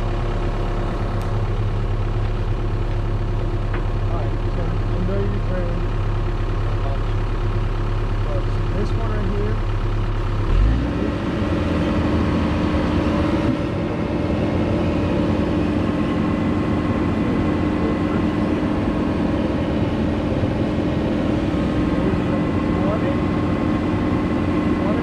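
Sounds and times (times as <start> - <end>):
excavator diesel engine revving: 0.0 - 25.0.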